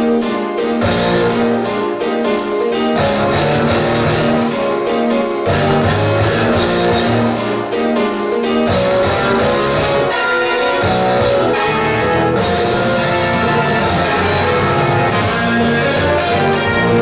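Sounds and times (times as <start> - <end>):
instrumental pop music: 0.0 - 17.0.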